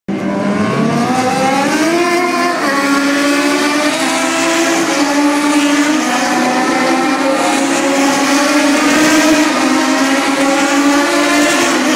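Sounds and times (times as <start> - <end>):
race car engines revving: 0.1 - 11.9.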